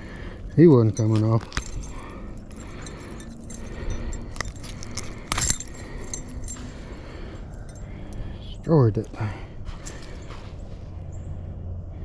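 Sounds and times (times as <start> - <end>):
metallic jingling and clinking: 0.0 - 11.3.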